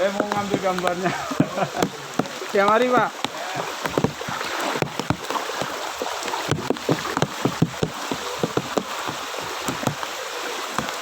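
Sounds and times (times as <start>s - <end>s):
floodwater splashing and gurgling: 0.0s - 11.0s
water plops: 0.0s - 11.0s
watery hiss: 0.0s - 11.0s.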